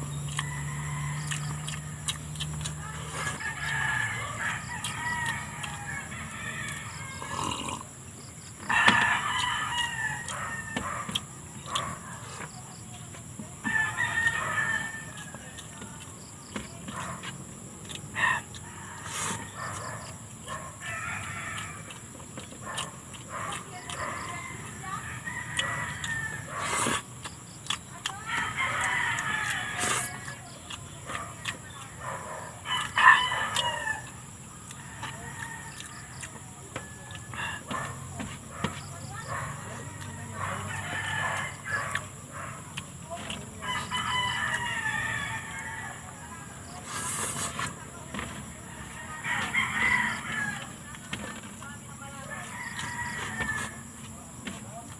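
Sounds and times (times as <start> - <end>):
chickens clucking: 0.0 - 54.9
rooster crowing: 0.1 - 7.8, 8.6 - 11.8, 13.6 - 16.3, 18.2 - 22.0, 23.6 - 27.0, 28.1 - 47.2, 48.2 - 54.2
eating by hand clicks: 0.1 - 48.6.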